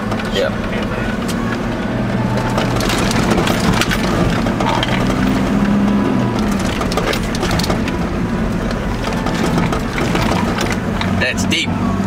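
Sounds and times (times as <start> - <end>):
knocks and rattles over bumps: 0.0 - 11.7
vehicle engine running: 0.0 - 12.0.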